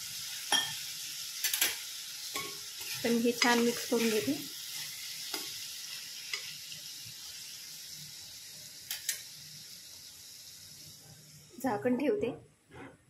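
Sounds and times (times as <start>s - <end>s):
vegetables sizzling in pan: 0.0s - 12.2s.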